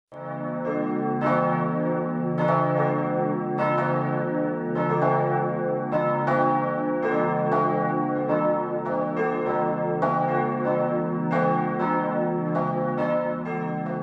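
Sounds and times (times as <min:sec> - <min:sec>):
church bells pealing: 0:00.2 - 0:14.0.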